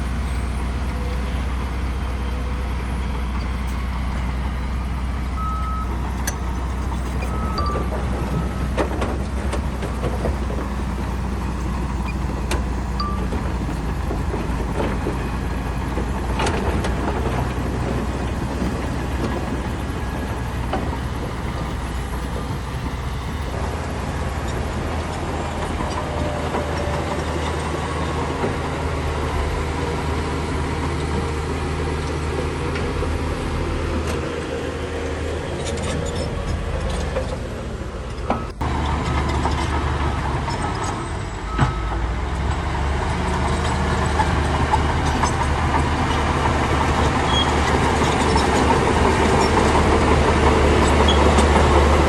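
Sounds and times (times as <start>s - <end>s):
bulldozer diesel engine running: 0.0s - 52.0s.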